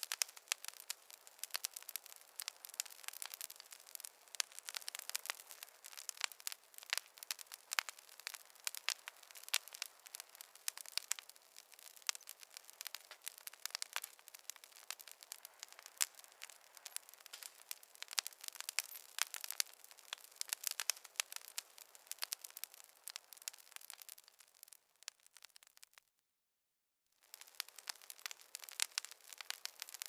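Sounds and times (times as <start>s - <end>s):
wood fire crackling: 0.0s - 26.0s, 27.2s - 30.0s.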